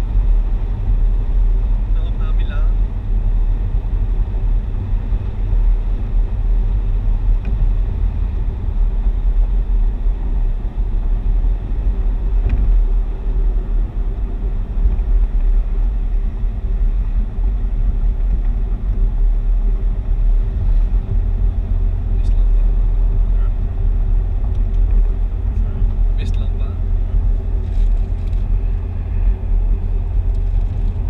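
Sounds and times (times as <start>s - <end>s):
car engine and road noise drone: 0.0s - 31.0s.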